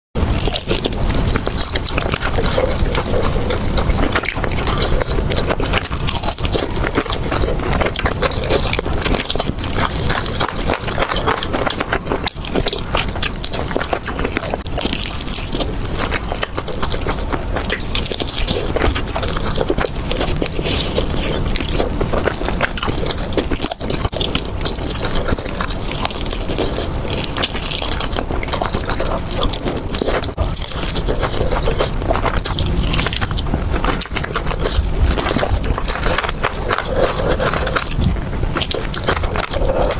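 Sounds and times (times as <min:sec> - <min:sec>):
chewing crunchy fried chicken: 0:00.2 - 0:39.9.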